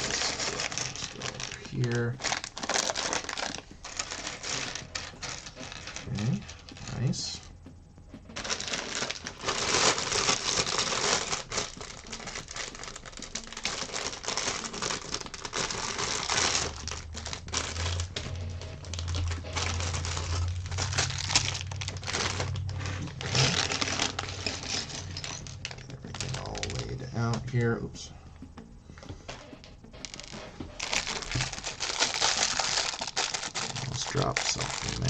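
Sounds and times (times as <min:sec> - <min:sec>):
plastic bag crinkling: 0:00.0 - 0:07.2, 0:08.4 - 0:27.5, 0:30.0 - 0:35.0.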